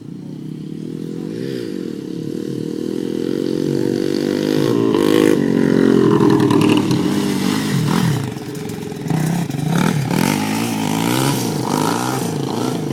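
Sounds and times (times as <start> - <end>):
small off-road engine revving: 0.0 - 12.9.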